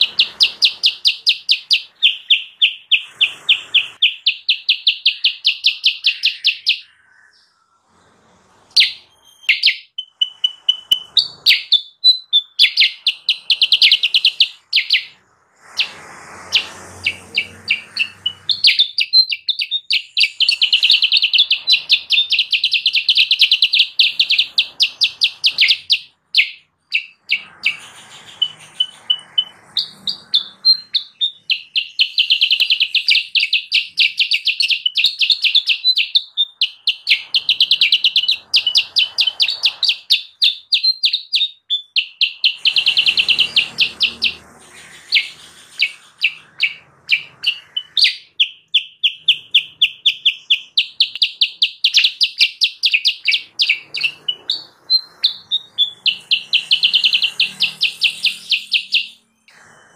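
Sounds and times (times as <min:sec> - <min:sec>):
bulbul singing rapid chattering notes: 0:00.0 - 0:07.0, 0:08.7 - 0:59.3.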